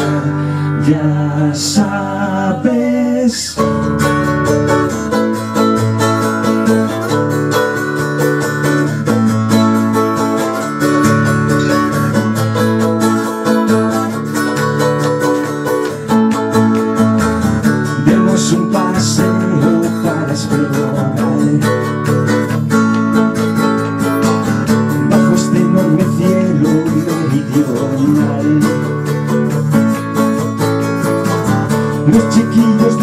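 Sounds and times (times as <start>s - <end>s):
strummed acoustic guitars: 0.0s - 33.0s
upright bass walking line: 3.6s - 33.0s.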